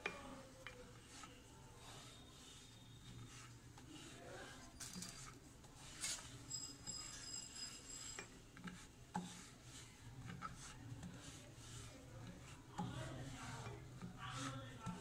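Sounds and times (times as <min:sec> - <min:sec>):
rolling pin rubbing on dough: 0:00.0 - 0:15.0.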